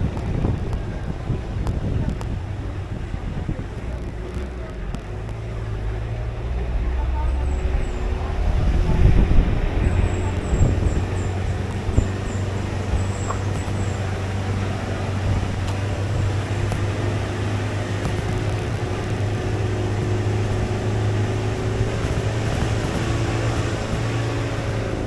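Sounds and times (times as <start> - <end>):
bus engine running: 0.0 - 25.0
road noise: 0.0 - 25.0.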